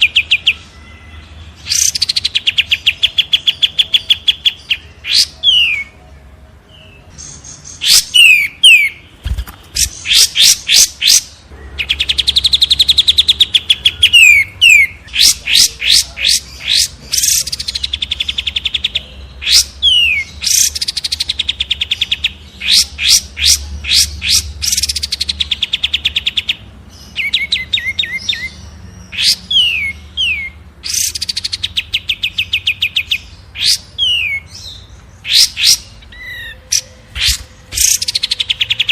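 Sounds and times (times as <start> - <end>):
songbirds singing trills: 0.0 - 38.9.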